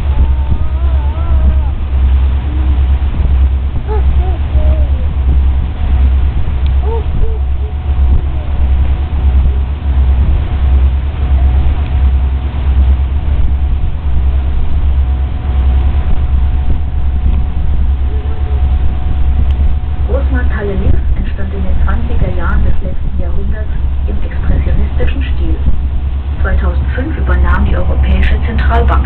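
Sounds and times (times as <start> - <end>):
boat engine rumble: 0.0 - 29.0
faint steady hum: 0.0 - 29.0.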